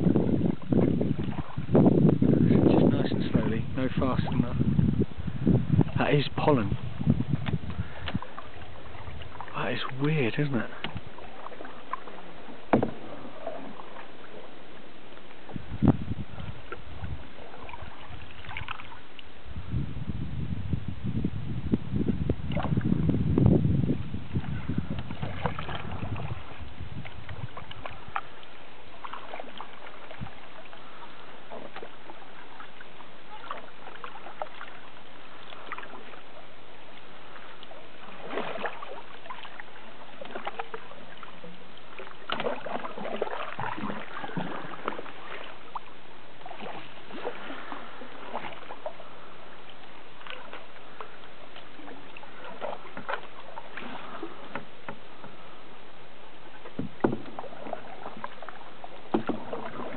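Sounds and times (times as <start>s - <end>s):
paddles splashing in water: 0.0s - 19.7s, 22.2s - 59.9s.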